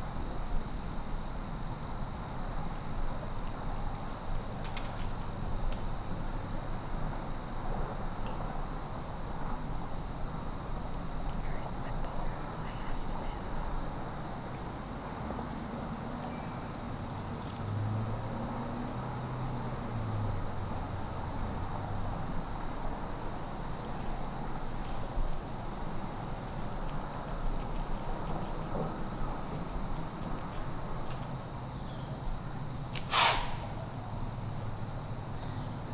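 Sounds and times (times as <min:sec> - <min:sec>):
high-pitched insect trill: 0:00.0 - 0:35.9.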